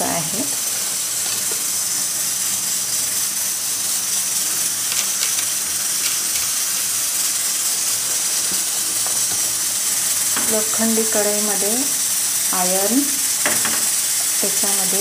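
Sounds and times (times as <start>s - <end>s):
oil sizzling with frying herbs: 0.0s - 15.0s.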